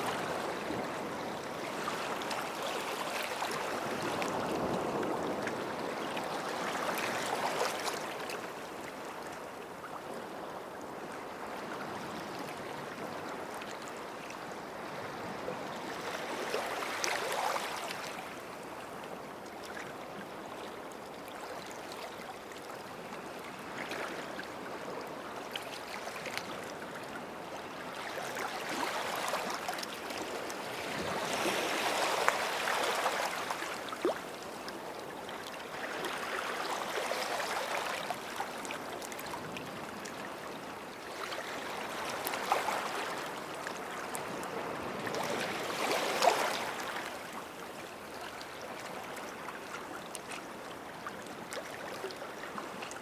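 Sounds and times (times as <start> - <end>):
small waves lapping: 0.0 - 9.3, 19.6 - 53.0.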